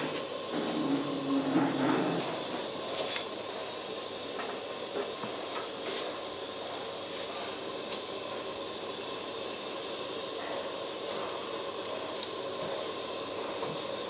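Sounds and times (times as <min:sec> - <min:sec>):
soup pot hissing on gas burner: 0:00.0 - 0:14.0.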